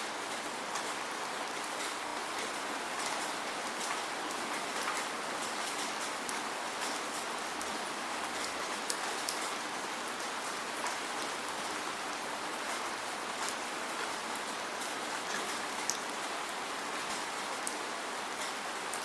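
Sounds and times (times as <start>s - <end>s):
raindrops ticking on a surface: 0.0s - 19.0s
steady rain hiss: 0.0s - 19.0s.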